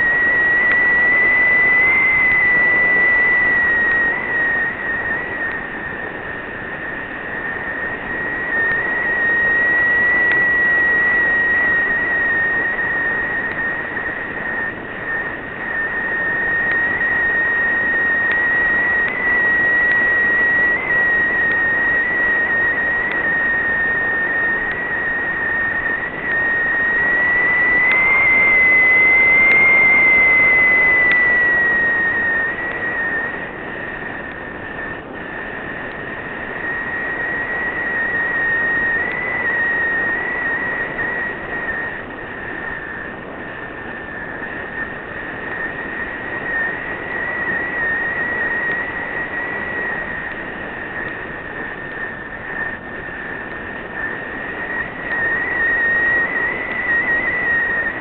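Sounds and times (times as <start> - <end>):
high-pitched whine: 0.0 - 58.0.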